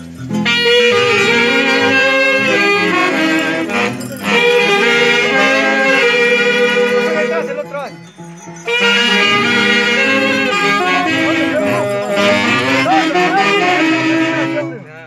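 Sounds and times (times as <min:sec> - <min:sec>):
wind band playing melody: 0:00.0 - 0:15.0.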